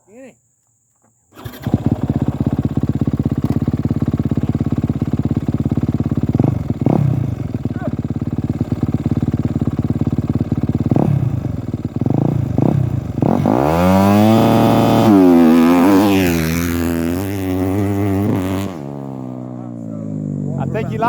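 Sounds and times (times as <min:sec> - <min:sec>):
dirt bike engine revving: 0:01.4 - 0:21.0.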